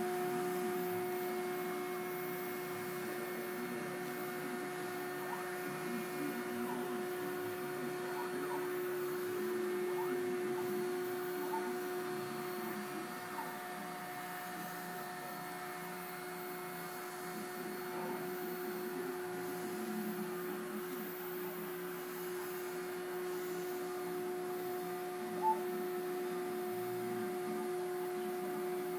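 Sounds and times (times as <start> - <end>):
muffled router spindle whine: 0.0 - 28.9.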